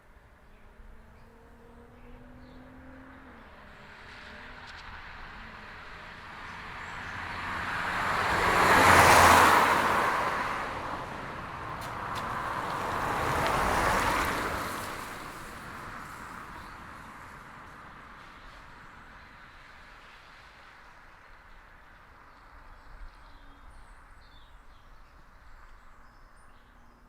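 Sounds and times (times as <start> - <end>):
cars passing on a road: 0.0 - 27.0.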